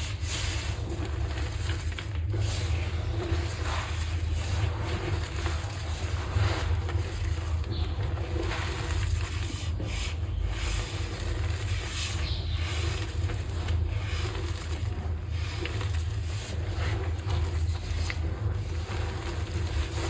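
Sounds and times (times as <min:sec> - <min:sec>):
chalk rubbed by hand: 0:00.0 - 0:20.0
steady low hum: 0:00.0 - 0:20.0.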